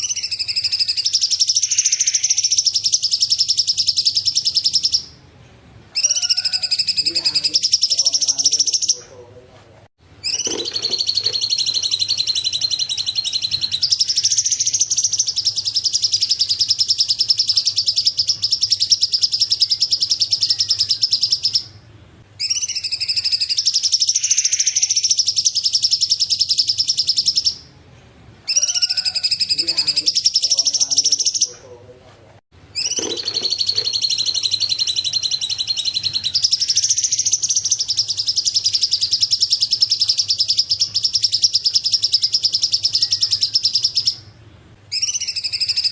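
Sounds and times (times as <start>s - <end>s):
songbirds chattering and trilling: 0.0s - 5.2s, 5.9s - 9.4s, 10.2s - 27.7s, 28.4s - 31.9s, 32.7s - 45.9s.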